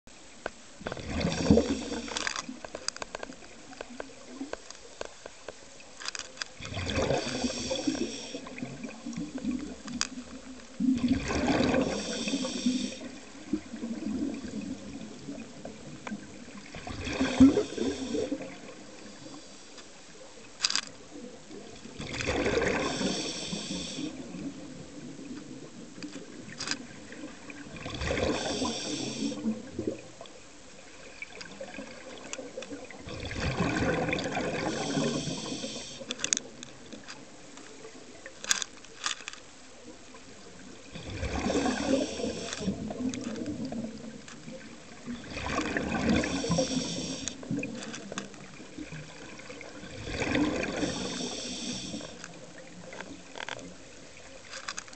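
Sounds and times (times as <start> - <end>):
underwater air bubbling: 0.8 - 4.7, 6.4 - 38.5, 39.8 - 54.5.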